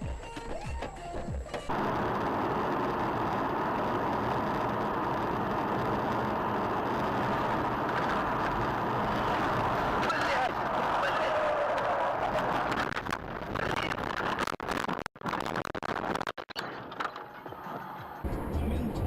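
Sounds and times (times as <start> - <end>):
car road and engine noise: 0.0 - 13.7, 17.1 - 19.0.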